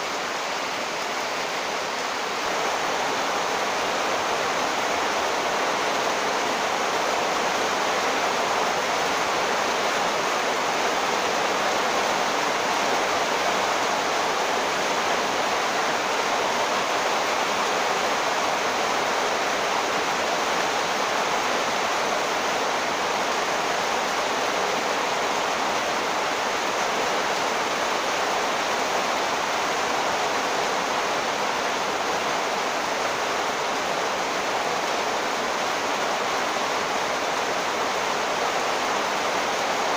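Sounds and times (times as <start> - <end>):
heavy rain pouring onto water: 0.0 - 39.9.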